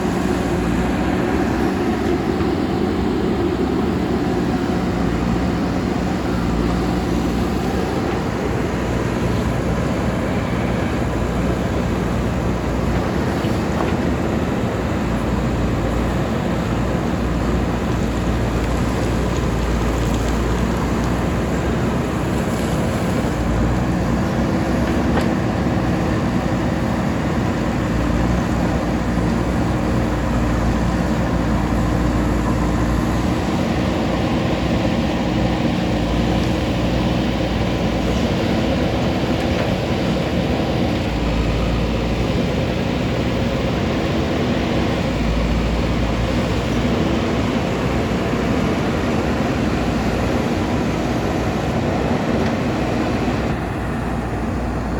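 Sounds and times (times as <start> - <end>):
backhoe loader diesel engine: 0.0 - 54.9.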